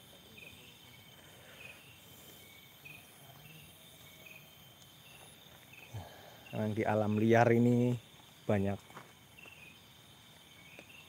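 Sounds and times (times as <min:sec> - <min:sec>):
cricket chirps: 0:00.0 - 0:11.0
insects trilling: 0:00.0 - 0:11.0.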